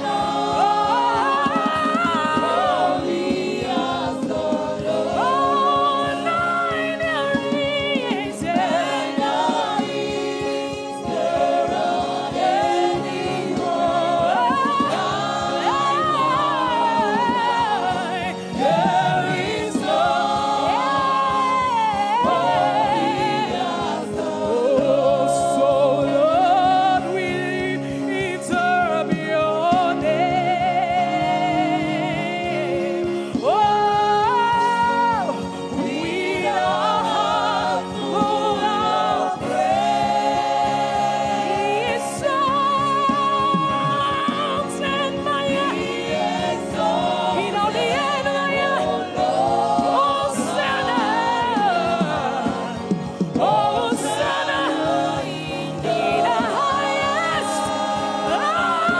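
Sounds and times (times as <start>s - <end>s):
choir singing: 0.0s - 58.9s
lead singer: 0.0s - 58.9s
sustained instrumental backing: 0.0s - 58.9s.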